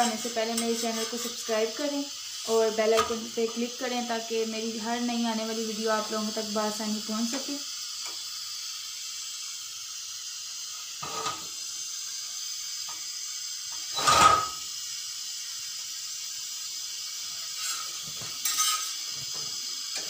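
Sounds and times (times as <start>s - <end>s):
gas burner hissing: 0.0s - 20.0s.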